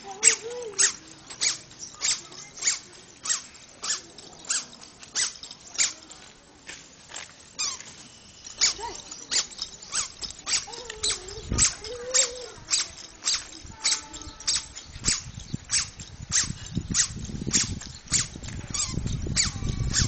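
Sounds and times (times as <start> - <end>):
squeaky sandals squeaking: 0.0 - 20.0.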